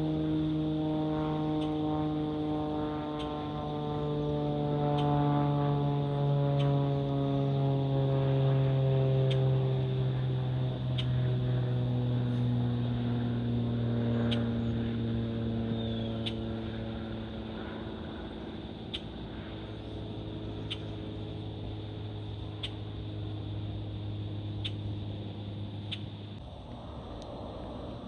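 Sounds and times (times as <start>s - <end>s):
airliner engines passing overhead: 0.0s - 28.0s.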